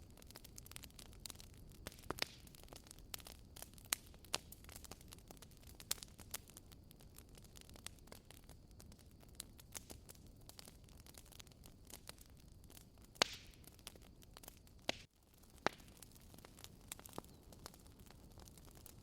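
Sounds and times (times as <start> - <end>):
wood fire crackling in fireplace: 0.0 - 19.0.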